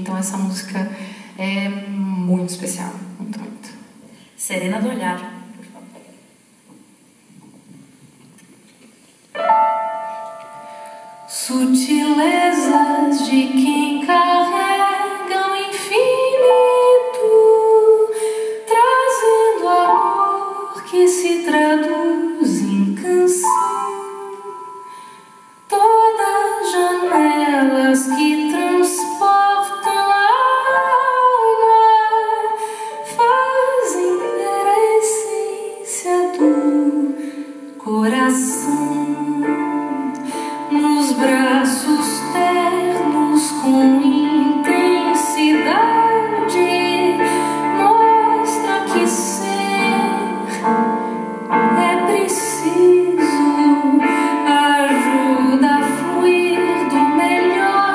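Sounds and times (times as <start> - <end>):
grand piano: 0.0 - 57.9
woman singing a ballad: 11.3 - 57.9.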